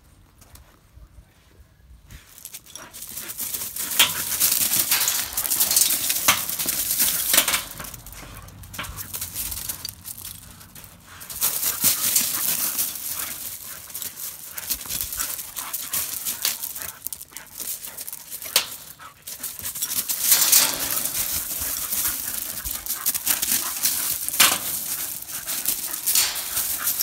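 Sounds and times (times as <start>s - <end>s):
dog paws scuffling on gravel: 2.1s - 27.0s.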